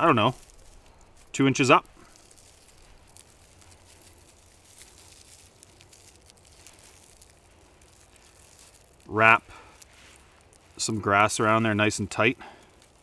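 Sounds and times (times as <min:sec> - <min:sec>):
dry grass rustling and crinkling: 0:00.0 - 0:13.0
small ticks: 0:00.4 - 0:11.0, 0:11.8 - 0:13.0.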